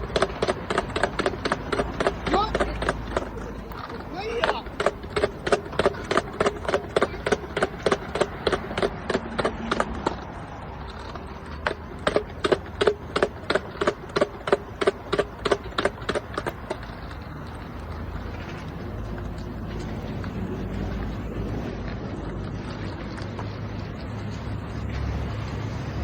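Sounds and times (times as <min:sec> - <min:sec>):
skateboard clacking down stairs: 0:00.0 - 0:21.7.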